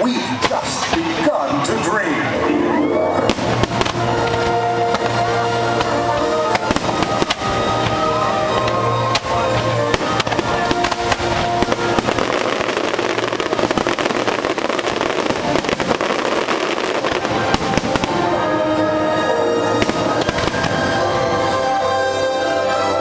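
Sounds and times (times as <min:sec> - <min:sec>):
fireworks bursting and crackling: 0:00.0 - 0:02.3, 0:03.1 - 0:21.7
music: 0:00.0 - 0:23.0.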